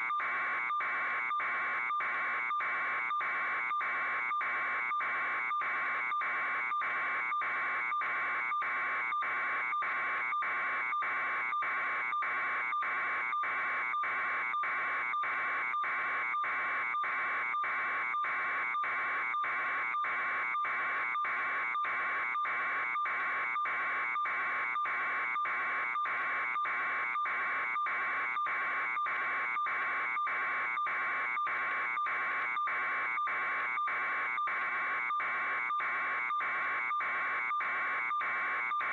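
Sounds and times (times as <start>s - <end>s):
electronic alarm buzzer pulsing: 0.0s - 38.9s.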